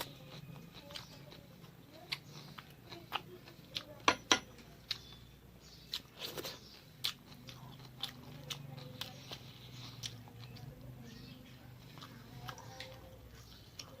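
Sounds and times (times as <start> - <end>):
person chewing crunchy food: 0.0 - 4.1, 4.8 - 14.0.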